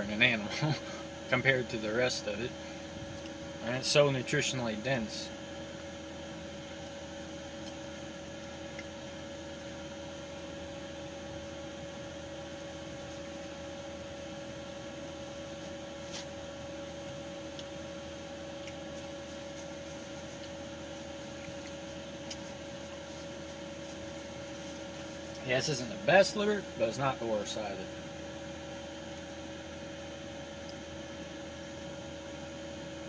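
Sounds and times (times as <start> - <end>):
hum with two constant tones: 0.0 - 33.0.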